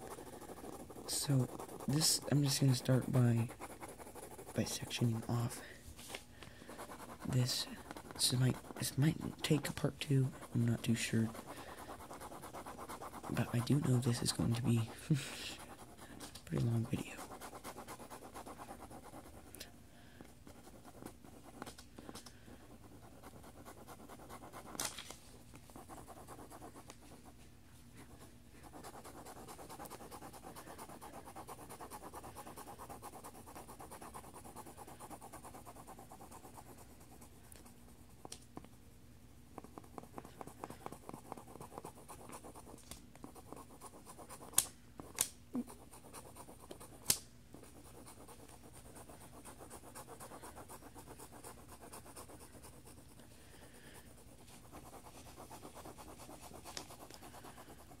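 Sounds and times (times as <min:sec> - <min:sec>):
pencil scratching on paper: 0:00.0 - 0:05.6, 0:06.7 - 0:19.5, 0:20.4 - 0:21.7, 0:22.6 - 0:24.9, 0:25.7 - 0:27.3, 0:28.0 - 0:38.7, 0:39.5 - 0:58.0.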